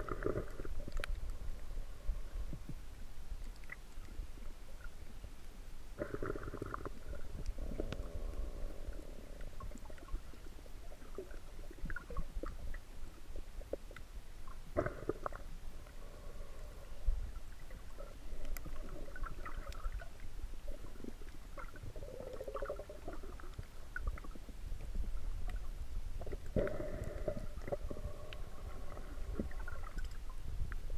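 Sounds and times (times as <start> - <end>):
underwater rumble: 0.0 - 30.9.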